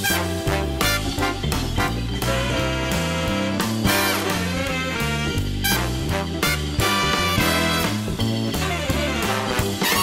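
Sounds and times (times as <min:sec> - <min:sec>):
swing music with bass line: 0:00.0 - 0:10.0.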